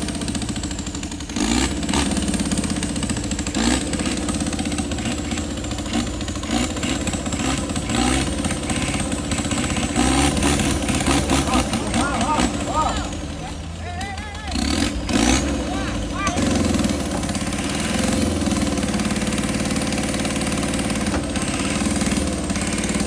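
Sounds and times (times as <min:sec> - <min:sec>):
truck engine revving: 0:00.0 - 0:23.0
vehicle knocks and clatter: 0:00.0 - 0:23.0.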